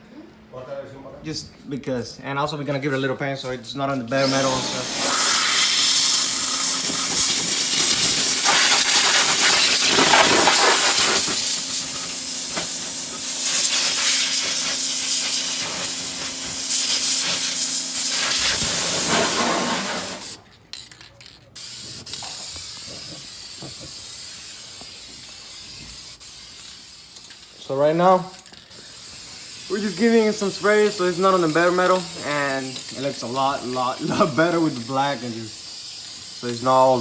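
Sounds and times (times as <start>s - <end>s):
spray paint hissing: 4.2s - 20.4s, 21.6s - 37.0s.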